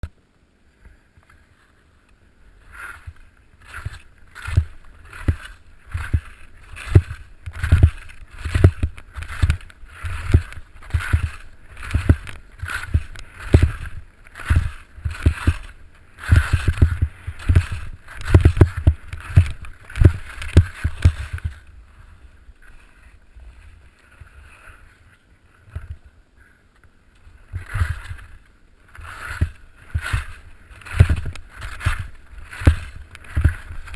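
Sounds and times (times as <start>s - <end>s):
skis scraping across snow: 0.8s - 33.9s
wind rumbling on microphone: 2.5s - 26.3s, 27.2s - 33.9s.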